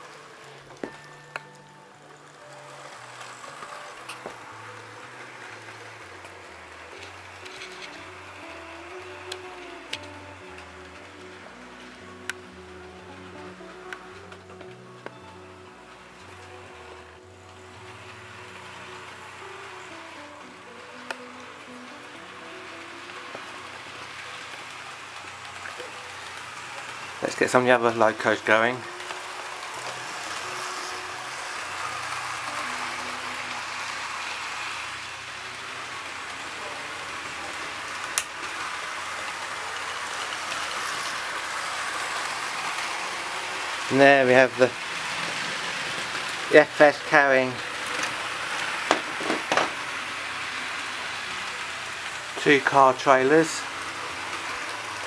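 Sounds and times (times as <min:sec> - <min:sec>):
model trains rattling on track: 0:00.0 - 0:55.0.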